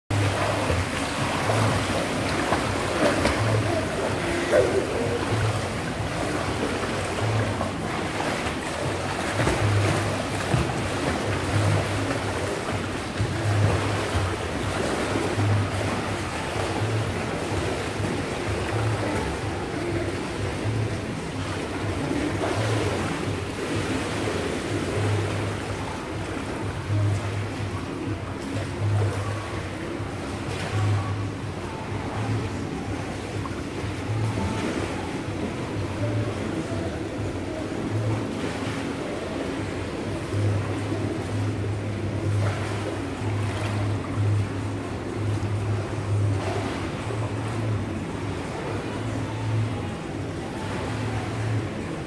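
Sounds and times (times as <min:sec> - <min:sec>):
pool water splashing: 0:00.1 - 0:52.0
steady low hum: 0:00.1 - 0:52.0.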